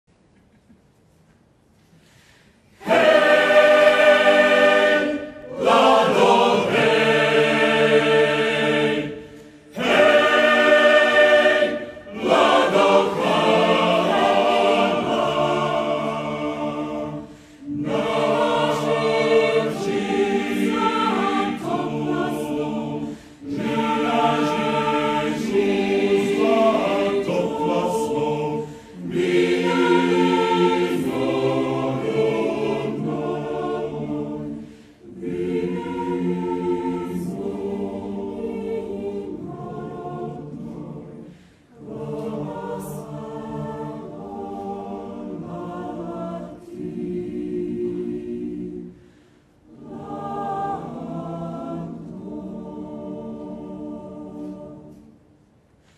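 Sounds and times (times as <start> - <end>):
choir singing a cappella: 2.0 - 55.9.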